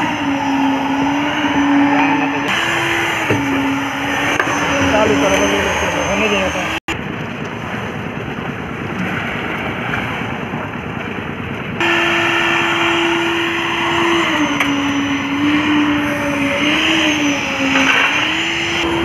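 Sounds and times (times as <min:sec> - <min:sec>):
concrete mixer engine running: 0:00.0 - 0:19.0.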